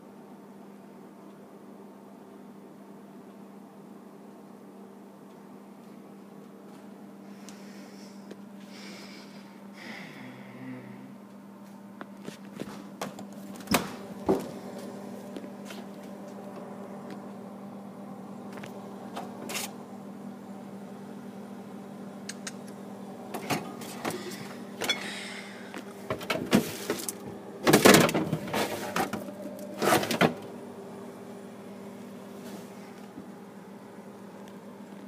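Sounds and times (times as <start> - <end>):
refrigerator humming: 0.0 - 35.0.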